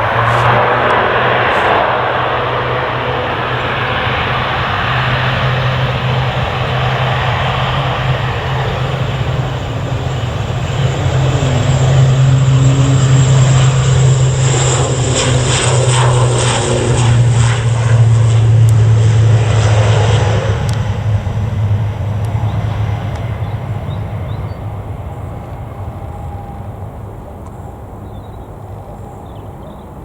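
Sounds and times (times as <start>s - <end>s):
jet airliner engine noise: 0.0s - 30.0s.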